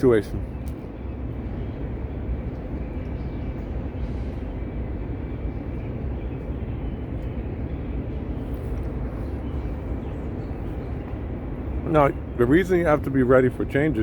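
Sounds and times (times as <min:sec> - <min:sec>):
deep rumbling outdoor noise: 0:00.0 - 0:14.0.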